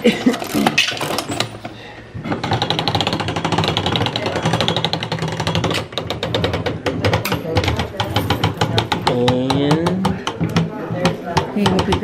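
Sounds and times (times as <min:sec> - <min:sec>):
penny press gears rattling: 0:00.3 - 0:10.4.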